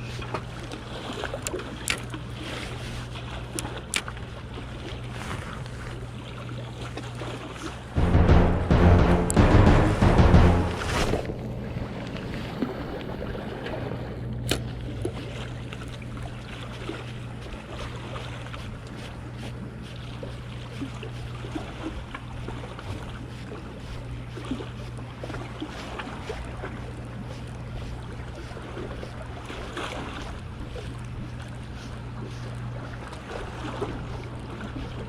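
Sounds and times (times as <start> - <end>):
wind: 0.0 - 8.0, 10.6 - 35.0
water noise: 0.0 - 35.0.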